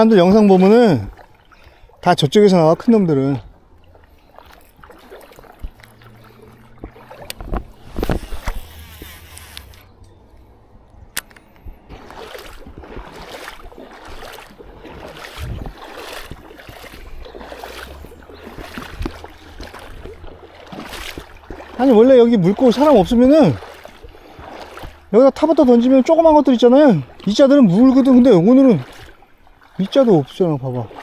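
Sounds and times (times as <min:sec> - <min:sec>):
sharp knocks and splashes: 0:00.0 - 0:10.1, 0:11.1 - 0:31.0
footsteps sloshing through water: 0:00.0 - 0:31.0.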